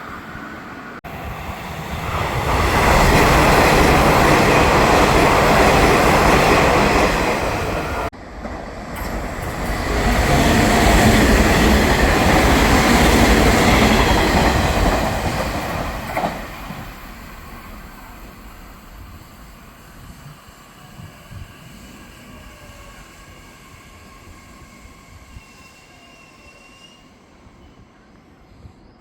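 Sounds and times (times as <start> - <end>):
train passing on rails: 0.0 - 29.0.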